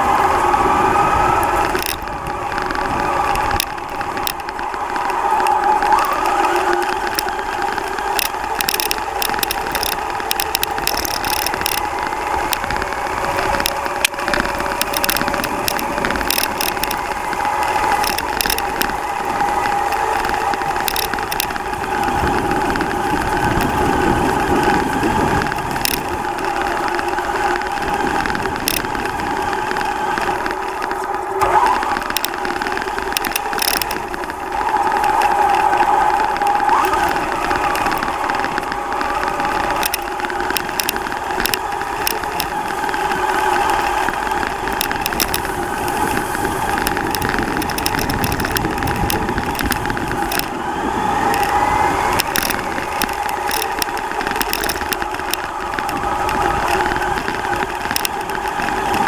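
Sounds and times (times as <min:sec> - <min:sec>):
rc truck motor whining: 0:00.0 - 0:59.0
chassis clicks and rattles: 0:01.0 - 0:59.0.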